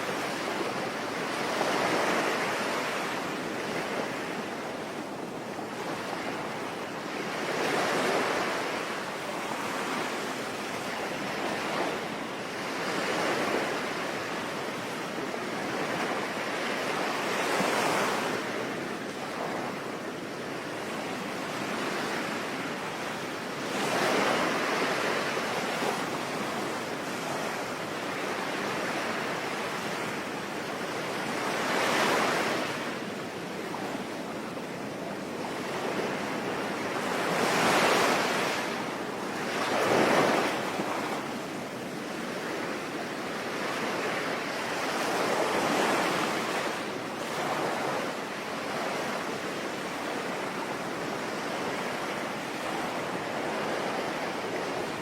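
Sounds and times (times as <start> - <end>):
sea waves breaking: 0.0 - 55.0.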